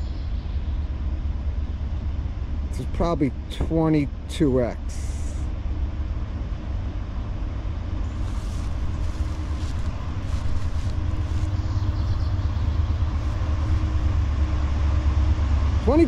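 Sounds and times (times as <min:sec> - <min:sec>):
distant diesel locomotive rumble: 0:00.0 - 0:16.0.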